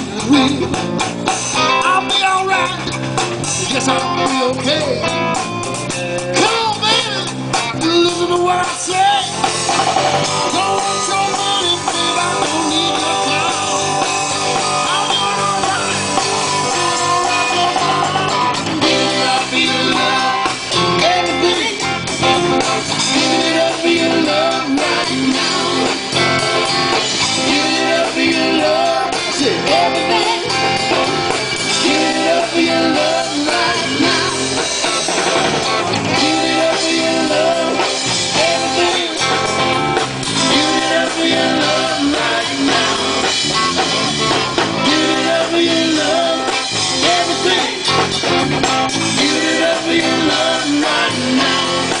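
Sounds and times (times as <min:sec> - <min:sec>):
live blues-rock band playing: 0:00.0 - 0:52.0.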